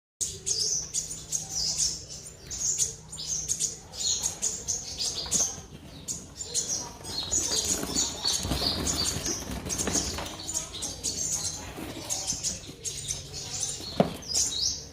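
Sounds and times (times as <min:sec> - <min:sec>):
sunbird chirping and twittering: 0:00.2 - 0:14.9.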